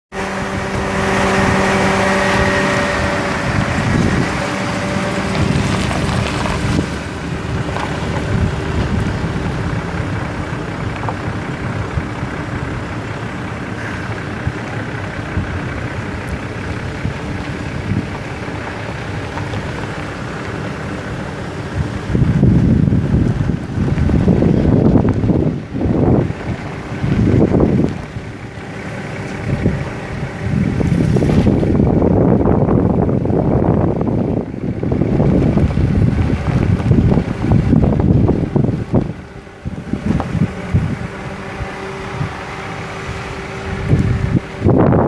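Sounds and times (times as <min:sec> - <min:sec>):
pickup truck engine running: 0:00.1 - 0:45.0
steady whine: 0:00.1 - 0:45.0.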